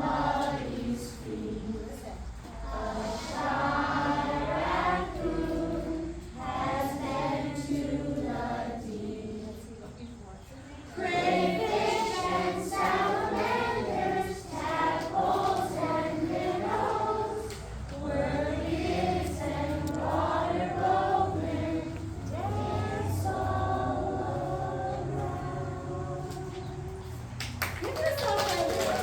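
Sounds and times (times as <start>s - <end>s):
choir singing unaccompanied: 0.0s - 27.4s.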